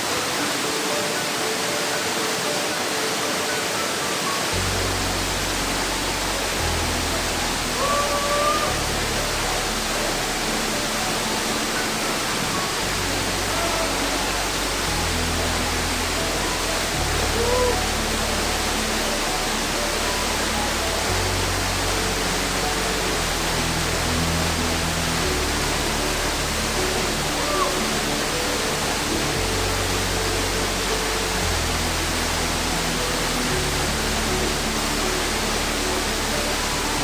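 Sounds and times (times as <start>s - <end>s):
soft background music: 0.0s - 37.0s
waterfall rushing: 0.0s - 37.0s.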